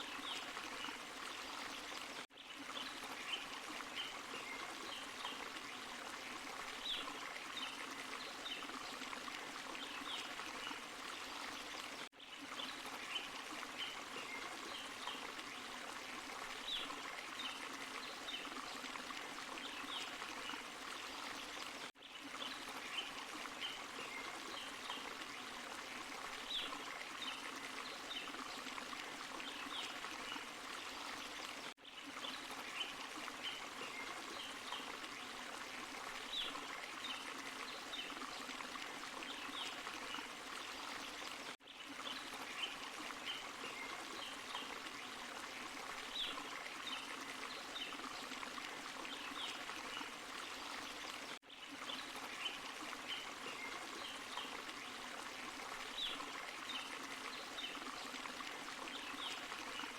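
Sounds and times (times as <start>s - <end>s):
stream and small waterfall: 0.0s - 59.9s.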